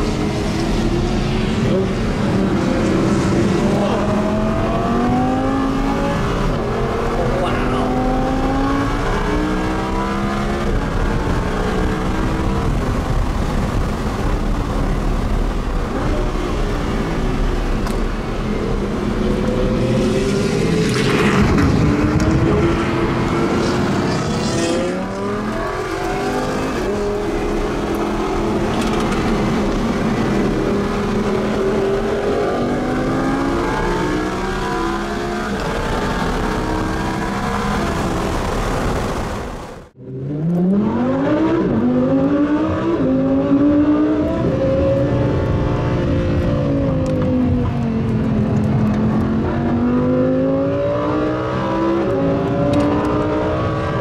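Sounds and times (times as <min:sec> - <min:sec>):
supercar engine accelerating: 0:00.0 - 0:54.0.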